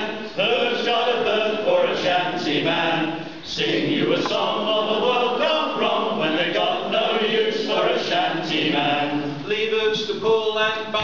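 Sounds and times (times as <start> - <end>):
men singing a sea shanty: 0.0 - 11.0.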